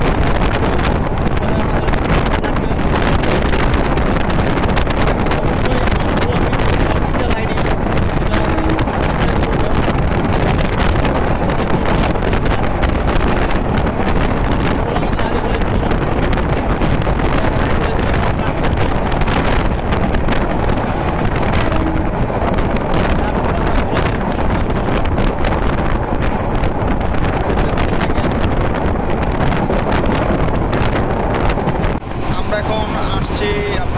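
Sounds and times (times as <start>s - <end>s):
train running on rails: 0.0s - 33.9s
wind buffeting microphone: 0.0s - 33.9s.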